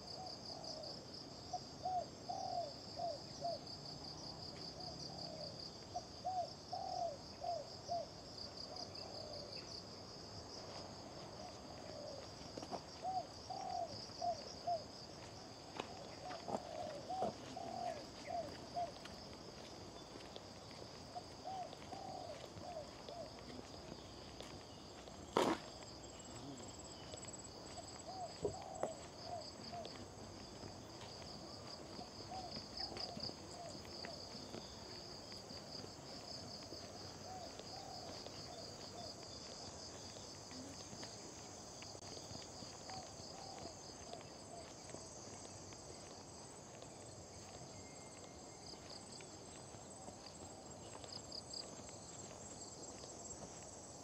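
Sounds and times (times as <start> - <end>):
insects chirring: 1.8 - 54.0.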